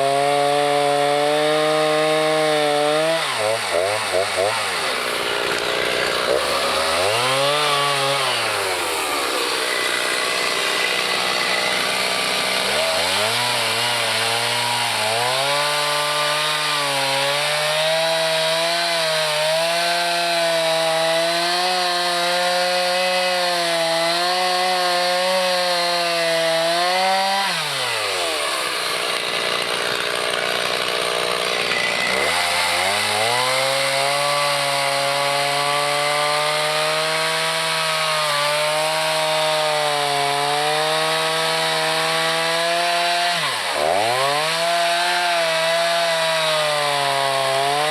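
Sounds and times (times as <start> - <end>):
chainsaw revving: 0.0 - 47.9.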